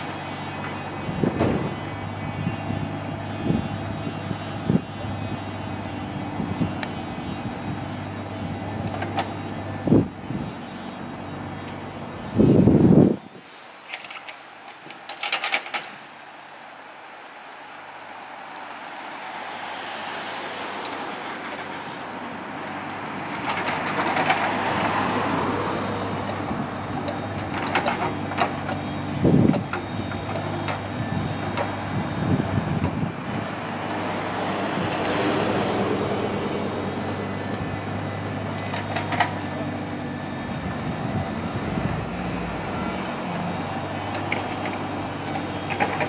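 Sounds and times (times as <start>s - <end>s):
excavator diesel engine running: 0.0s - 16.0s, 20.4s - 46.0s.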